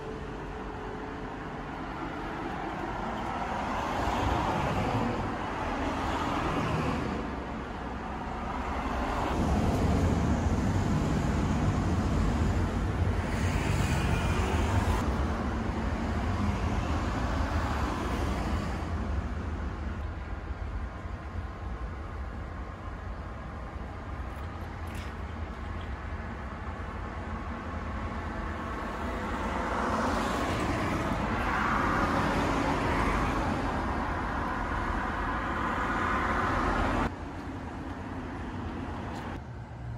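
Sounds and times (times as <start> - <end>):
cars passing: 0.0 - 39.9.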